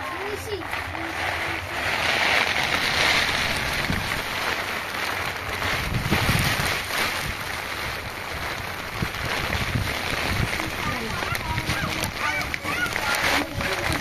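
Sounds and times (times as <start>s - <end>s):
heavy rain: 0.0s - 14.0s
wind buffeting microphone: 0.0s - 14.0s.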